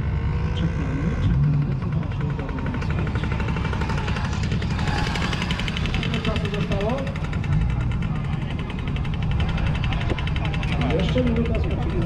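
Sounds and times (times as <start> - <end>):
car engine rumbling: 0.0 - 12.0
rapid even ticking: 0.4 - 12.0.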